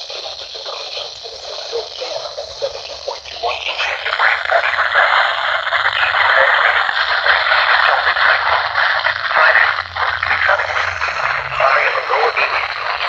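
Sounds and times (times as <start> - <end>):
radio static hiss with crackle: 0.0 - 13.0.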